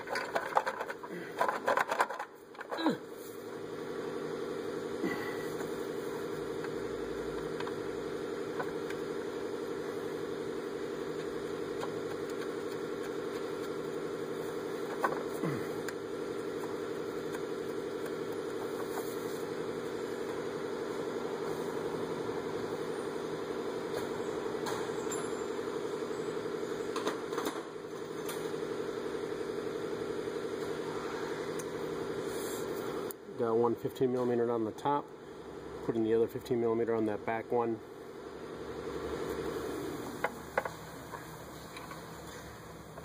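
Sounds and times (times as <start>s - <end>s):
motor hum: 0.0s - 33.6s, 34.4s - 43.0s.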